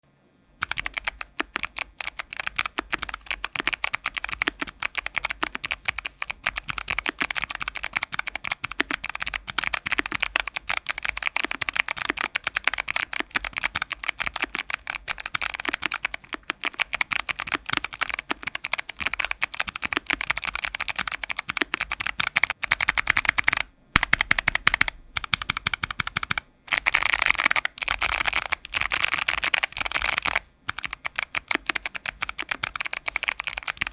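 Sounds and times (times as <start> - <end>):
mechanical keyboard typing clicks: 0.6 - 33.9.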